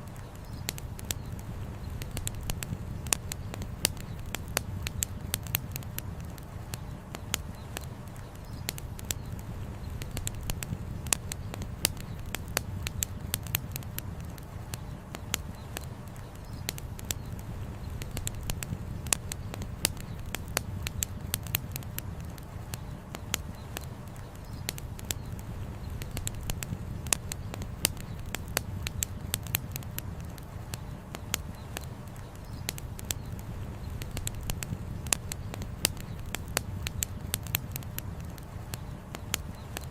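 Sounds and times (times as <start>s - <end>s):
campfire crackling: 0.0s - 39.9s
low rumble of fire: 0.0s - 39.9s.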